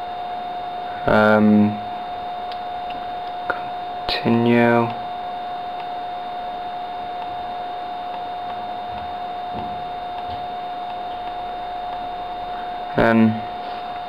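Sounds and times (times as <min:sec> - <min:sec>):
high-pitched whine and hiss: 0:00.0 - 0:14.0.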